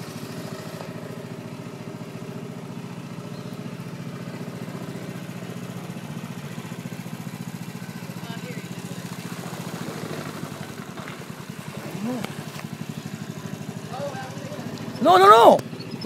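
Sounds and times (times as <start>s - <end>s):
small boat engine chugging: 0.0s - 16.0s.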